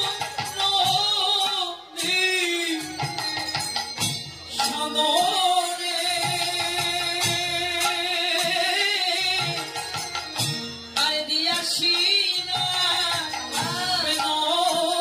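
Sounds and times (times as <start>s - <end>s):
percussion accompaniment: 0.0s - 15.0s.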